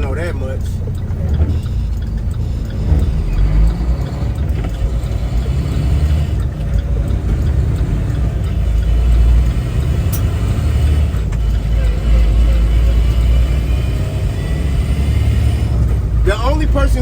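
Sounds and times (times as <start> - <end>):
truck engine rumble from cab: 0.0 - 17.0.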